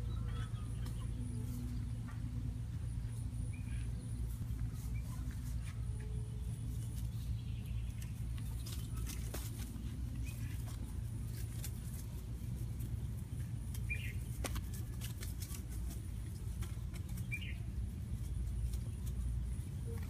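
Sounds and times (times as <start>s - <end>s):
chickens rustling in grass: 0.0s - 20.0s
steady low hum: 0.0s - 20.0s.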